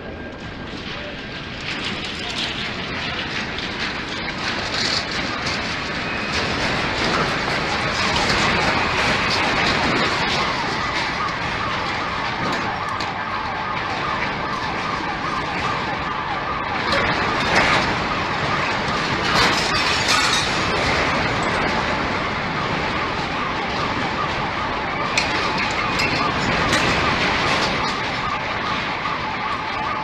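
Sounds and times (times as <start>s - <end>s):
steady rushing noise: 0.0s - 30.0s.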